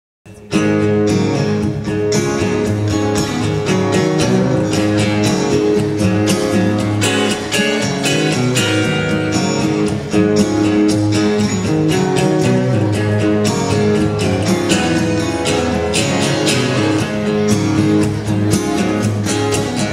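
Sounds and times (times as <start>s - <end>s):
acoustic and electric guitars strumming: 0.3s - 19.9s.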